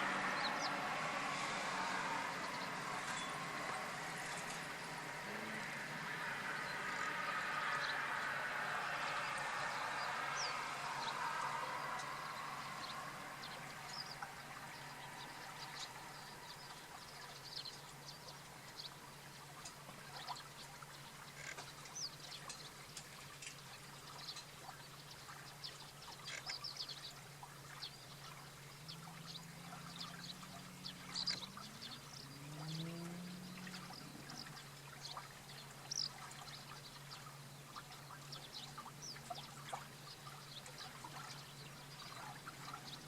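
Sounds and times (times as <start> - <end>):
water trickling: 0.0 - 43.0.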